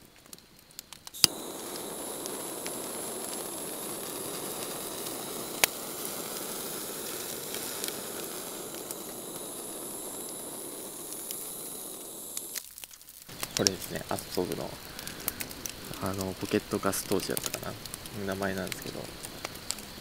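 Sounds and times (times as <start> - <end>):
gas torch hissing: 1.0 - 20.0.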